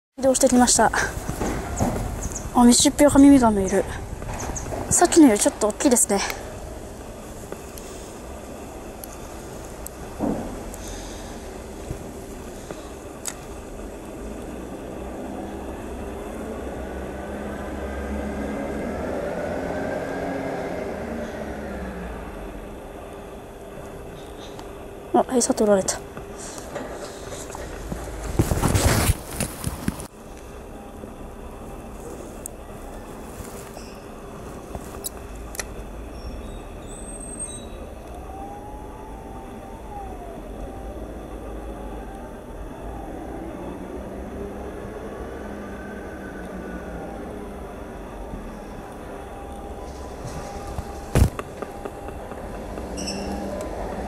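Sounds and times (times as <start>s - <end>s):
steady low rumble: 0.2s - 19.2s, 20.7s - 54.0s
distant vehicle engine drone: 0.2s - 54.0s
faint pitched whine: 0.2s - 54.0s.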